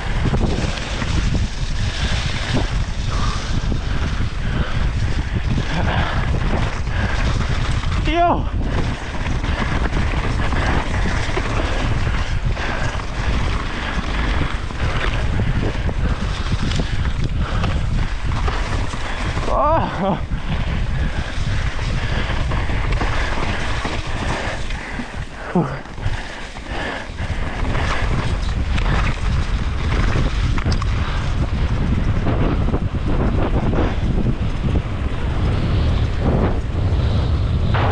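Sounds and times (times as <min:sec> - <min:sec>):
mountain bike rumbling and rattling: 0:00.0 - 0:37.9
wind buffeting microphone: 0:00.0 - 0:37.9.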